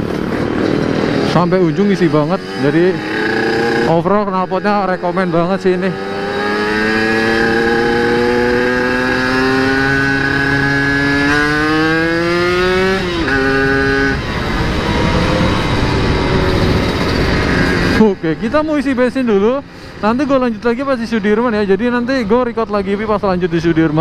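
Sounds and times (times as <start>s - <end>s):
motorcycle engine revving: 0.0s - 24.0s
rough noisy engine sound: 0.0s - 24.0s.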